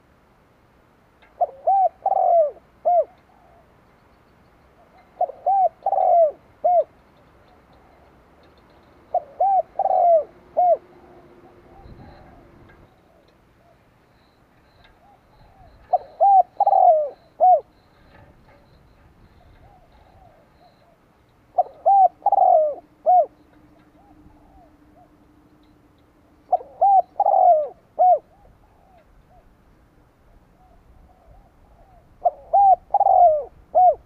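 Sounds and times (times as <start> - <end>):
dove cooing: 1.4 - 3.8, 4.8 - 8.2, 9.0 - 14.0, 14.7 - 18.6, 19.3 - 25.4, 26.4 - 29.6, 30.3 - 34.0.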